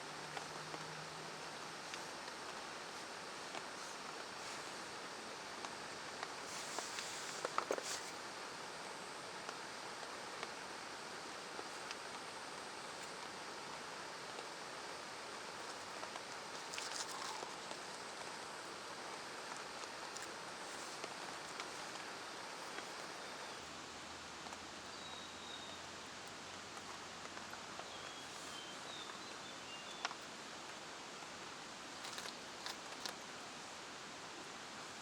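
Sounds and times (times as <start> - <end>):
rain hissing: 0.0 - 35.0.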